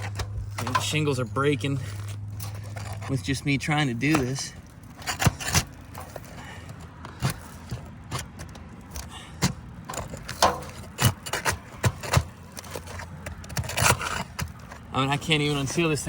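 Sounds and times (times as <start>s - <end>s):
roof shingles cracking and scraping: 0.0s - 16.0s.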